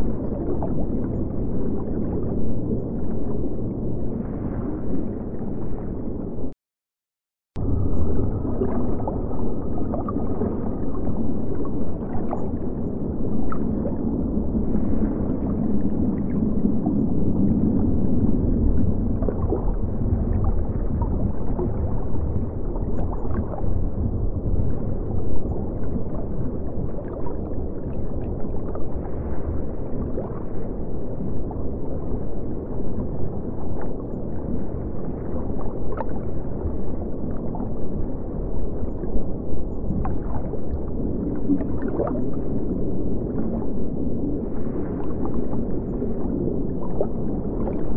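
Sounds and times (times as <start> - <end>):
underwater rumble: 0.0 - 6.6, 7.6 - 47.9.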